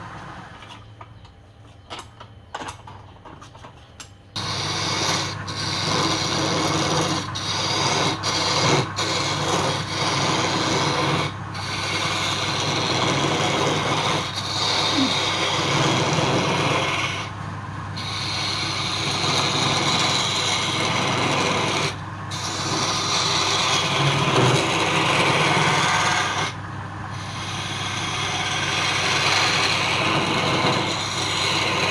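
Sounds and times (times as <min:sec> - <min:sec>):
tool scraping spinning wood: 0:03.3 - 0:31.9
lathe motor humming: 0:04.4 - 0:31.9.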